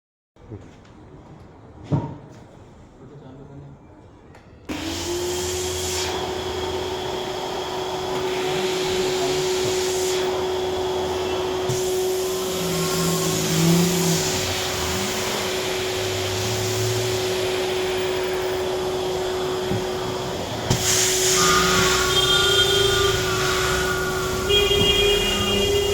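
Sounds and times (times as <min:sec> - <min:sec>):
vacuum cleaner running: 0:04.7 - 0:25.9.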